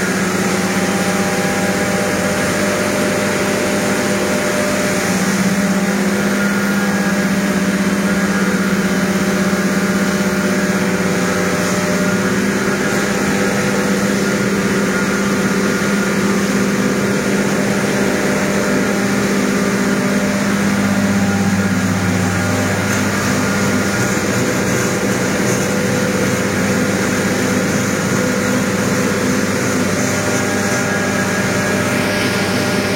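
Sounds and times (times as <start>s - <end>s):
motor running steadily: 0.0s - 32.9s.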